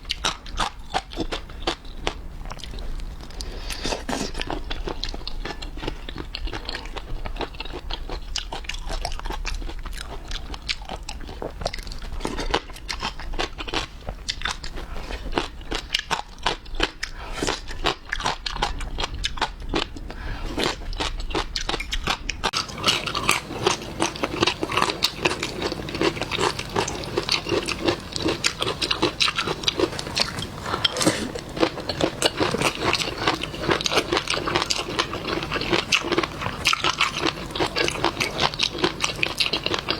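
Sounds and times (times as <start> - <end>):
crunching and wet chewing: 0.0 - 39.9.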